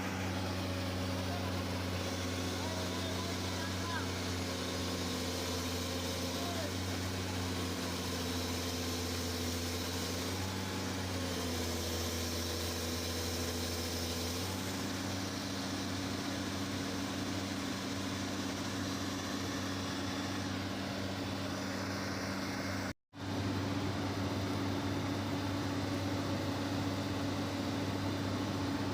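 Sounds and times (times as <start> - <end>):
excavator diesel engines running: 0.0 - 28.9.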